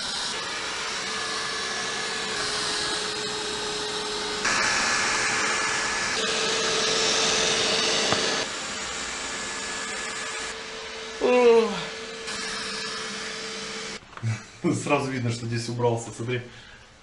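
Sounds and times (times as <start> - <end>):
robot vacuum whirring hum: 0.0 - 14.0.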